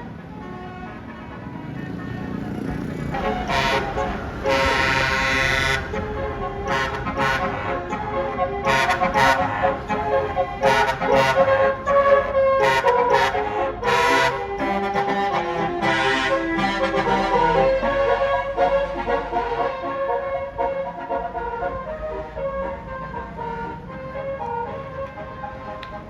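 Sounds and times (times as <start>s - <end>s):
bus horn playing a melody: 0.0s - 26.0s.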